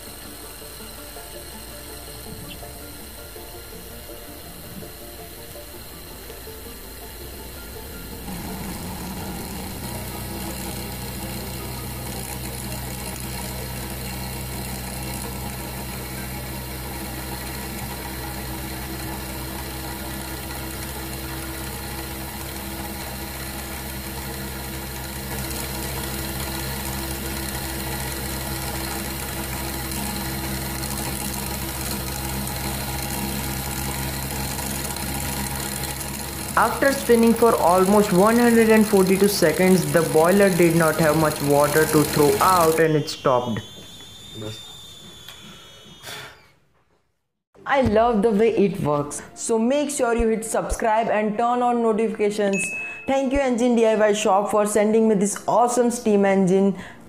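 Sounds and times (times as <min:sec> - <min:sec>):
steam hissing: 0:00.0 - 0:46.6
steam engine whirring hum: 0:00.0 - 0:47.0.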